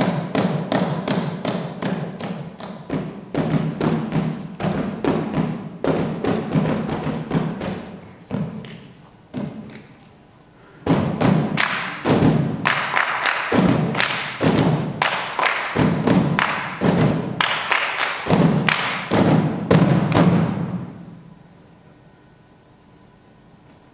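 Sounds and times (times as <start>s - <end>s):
hollow percussive thumps and slaps: 0.0s - 9.9s, 10.8s - 20.9s.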